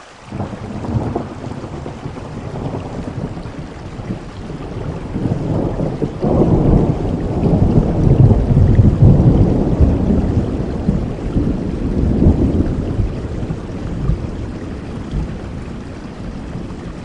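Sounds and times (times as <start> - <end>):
heavy rain: 0.0 - 17.0
thunder rumbling: 0.3 - 17.0.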